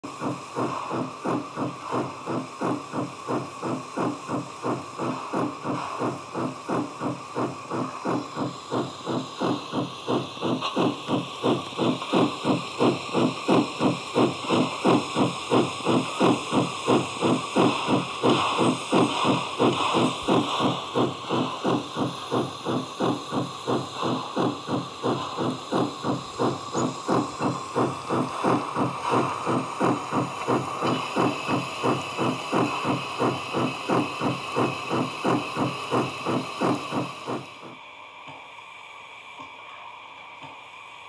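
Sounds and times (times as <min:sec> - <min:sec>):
steam locomotive exhaust chuffs: 0:00.0 - 0:39.6.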